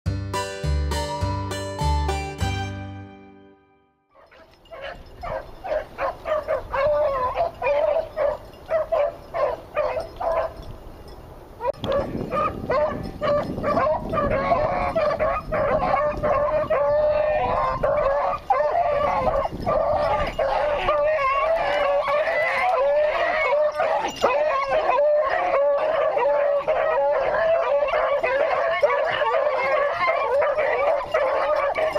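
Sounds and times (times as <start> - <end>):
dogs barking and howling: 4.2 - 10.7, 11.6 - 31.9.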